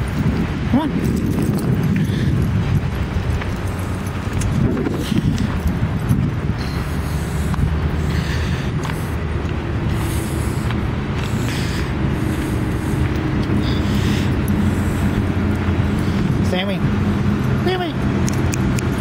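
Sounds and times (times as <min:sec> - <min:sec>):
footsteps on gravel: 0:00.0 - 0:19.0
low engine drone: 0:00.0 - 0:19.0.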